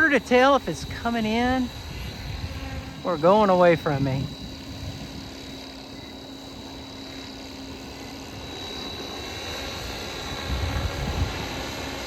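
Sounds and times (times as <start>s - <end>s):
model helicopter hovering: 0.0s - 12.0s.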